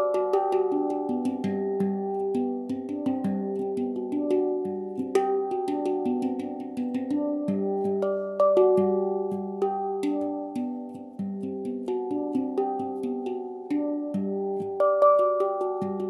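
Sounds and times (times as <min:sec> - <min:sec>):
melody of ringing notes: 0:00.0 - 0:16.0.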